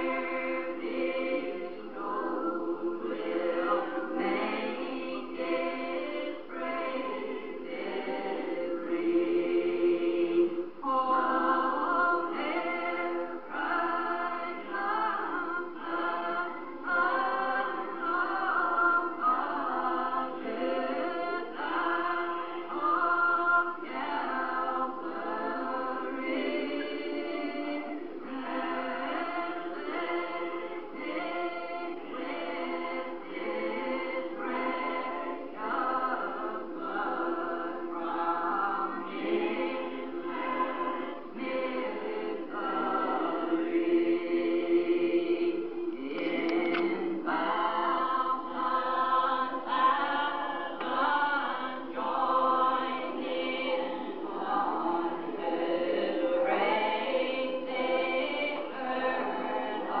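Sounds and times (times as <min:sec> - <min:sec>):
congregation singing a hymn: 0:00.0 - 1:00.0.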